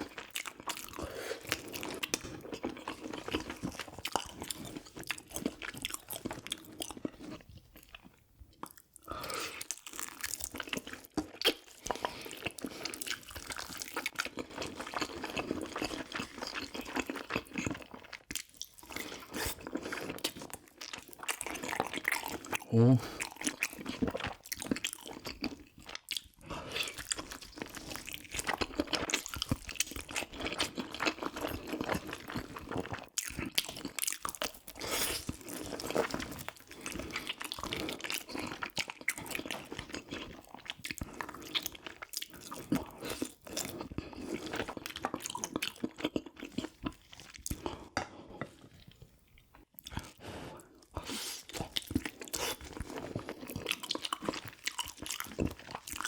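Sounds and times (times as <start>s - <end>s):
person chewing wetly: 0.0s - 56.0s.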